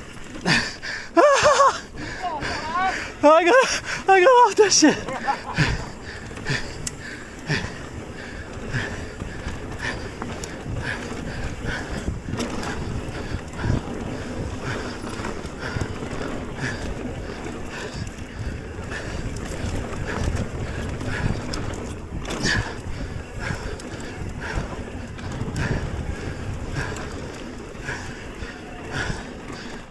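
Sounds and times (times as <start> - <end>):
tyres rumbling on dirt: 0.0 - 29.9
wind buffeting microphone: 0.0 - 29.9.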